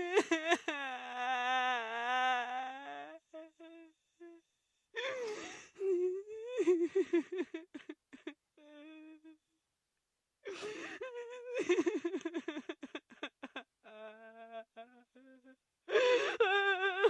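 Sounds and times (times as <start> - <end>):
woman crying and sobbing: 0.0 - 4.4, 5.0 - 9.4, 10.5 - 17.0.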